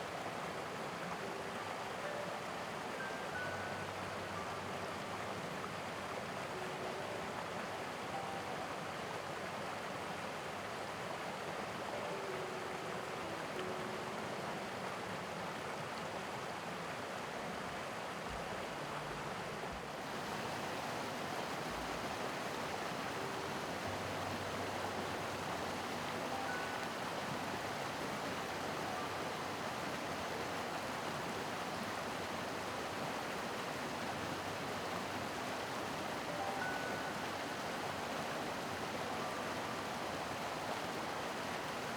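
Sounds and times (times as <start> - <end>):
stream rushing over rocks: 0.0 - 41.9
soft piano notes: 1.0 - 9.7, 11.7 - 15.6, 18.2 - 33.1, 33.8 - 41.9.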